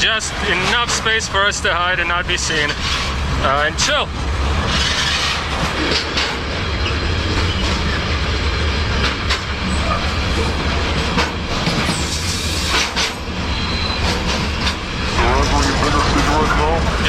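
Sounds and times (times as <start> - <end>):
freight train rumble: 0.0 - 17.0
wheels clattering over rails: 0.0 - 17.0.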